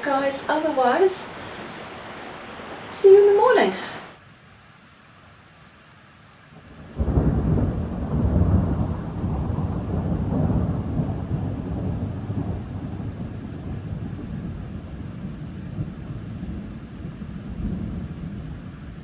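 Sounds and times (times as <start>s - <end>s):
thunder rumbling: 0.0s - 4.2s, 7.0s - 19.0s
steady rain: 0.0s - 19.0s.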